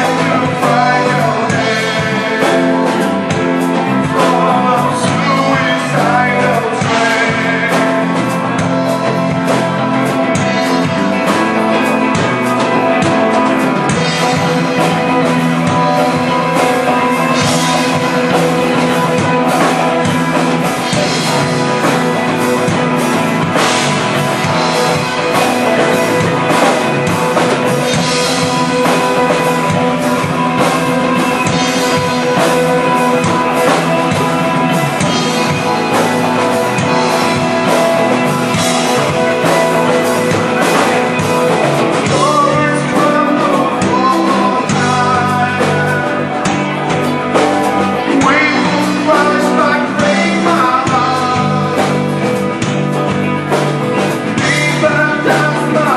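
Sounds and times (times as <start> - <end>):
drum kit: 0.0 - 55.9
electric guitars: 0.0 - 55.9.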